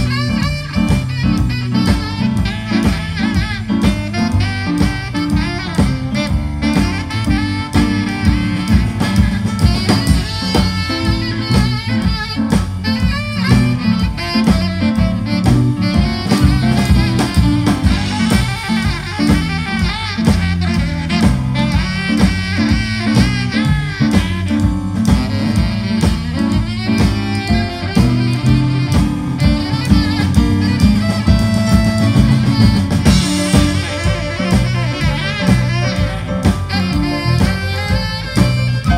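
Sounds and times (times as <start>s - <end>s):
drum kit: 0.0s - 38.9s
saxophones: 0.0s - 38.9s
walking electric bass line: 0.0s - 38.9s.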